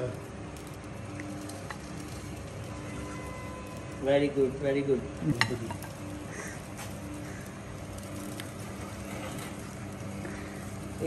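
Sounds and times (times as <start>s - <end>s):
gas burner rushing: 0.0s - 11.0s.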